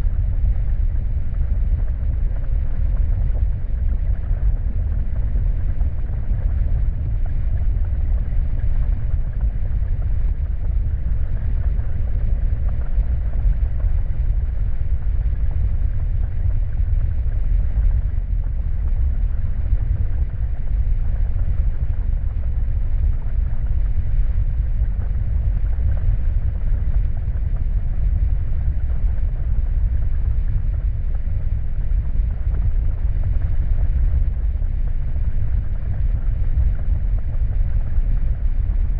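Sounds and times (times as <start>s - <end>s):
deep dark ambient rumble: 0.0s - 38.9s.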